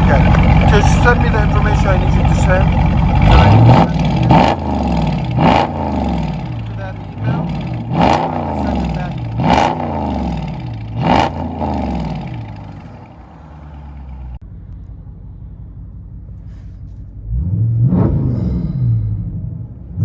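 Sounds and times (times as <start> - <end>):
engine revving: 0.0 - 14.9, 16.4 - 20.0
engine idling: 0.0 - 17.6.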